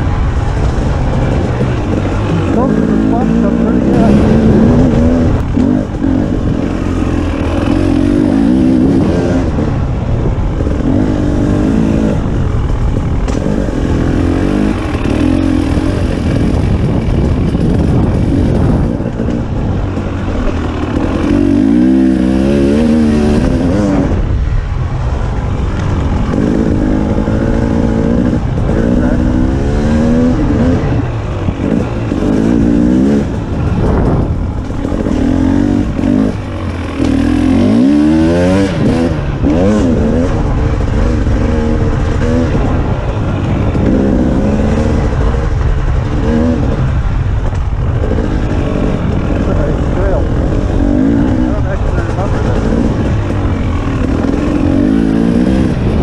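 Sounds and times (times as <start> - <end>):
steady low rumble: 0.0 - 56.0
two-stroke motorcycle engine revving: 0.0 - 56.0.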